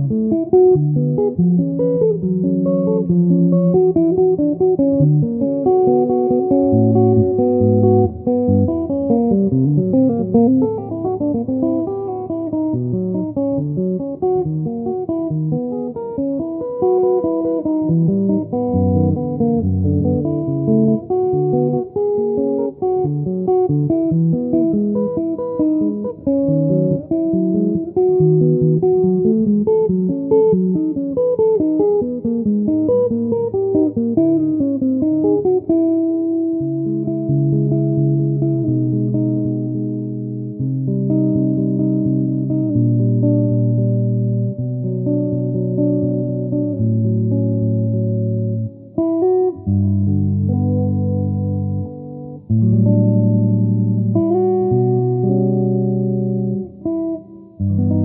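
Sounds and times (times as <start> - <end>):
clean electric guitar playing: 0.0 - 58.0.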